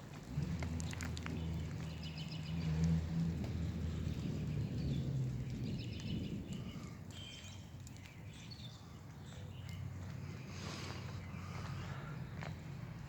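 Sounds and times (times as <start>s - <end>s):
continuous low rumble: 0.0s - 13.0s
small birds chirping: 0.8s - 13.0s.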